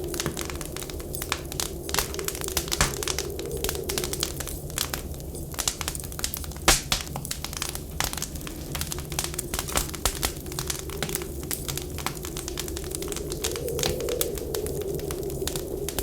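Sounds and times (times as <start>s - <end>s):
whistling wind: 0.0s - 6.7s, 8.2s - 16.0s
wood fire crackling: 0.0s - 16.0s.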